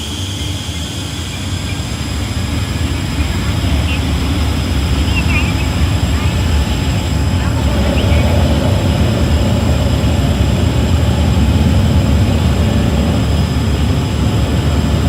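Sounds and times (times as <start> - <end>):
heavy machinery rumbling: 0.0 - 15.0.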